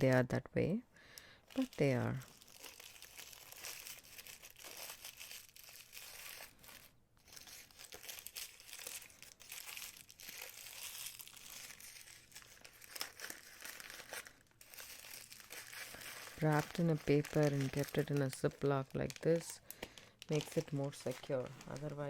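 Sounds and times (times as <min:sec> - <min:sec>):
packaging crinkling: 0:01.2 - 0:22.0.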